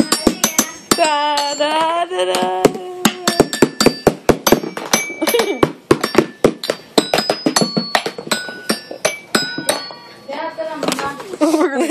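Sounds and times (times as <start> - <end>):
toy xylophone struck rapidly: 0.0 - 10.1.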